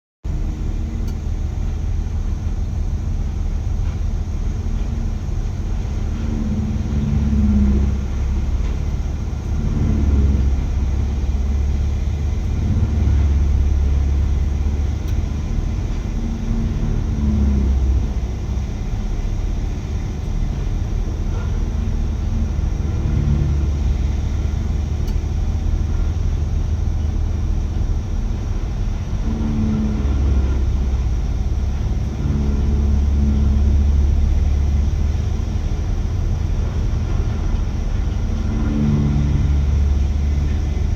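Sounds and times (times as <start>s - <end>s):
wood grinder diesel engine: 0.2s - 40.9s.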